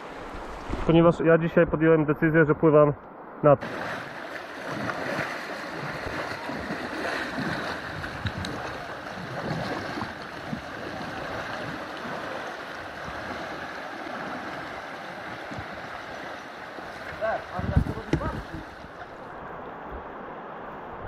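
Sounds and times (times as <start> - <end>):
river current rushing: 3.2 - 21.0
small waves lapping: 3.6 - 20.6.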